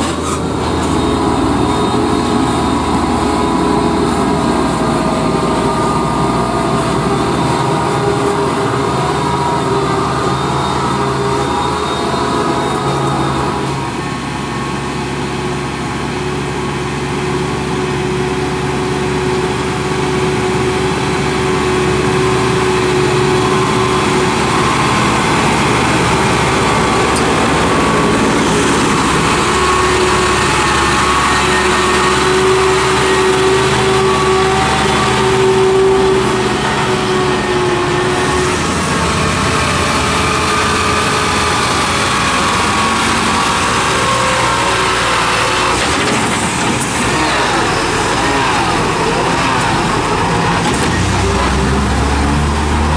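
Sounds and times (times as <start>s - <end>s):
truck diesel engines under load: 0.0s - 52.9s.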